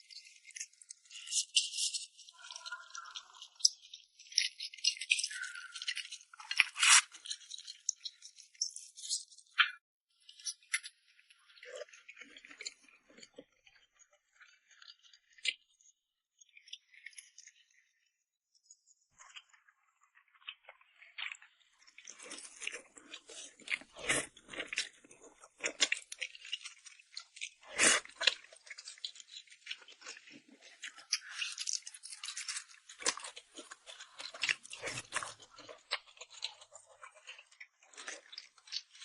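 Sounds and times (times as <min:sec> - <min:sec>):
person chewing and crunching food: 0:00.0 - 0:15.8, 0:18.6 - 0:39.0.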